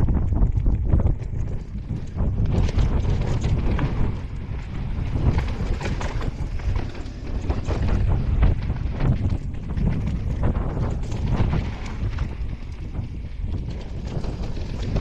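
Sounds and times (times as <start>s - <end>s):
bike rattling over rough ground: 0.0s - 15.0s
wind buffeting microphone: 0.0s - 15.0s.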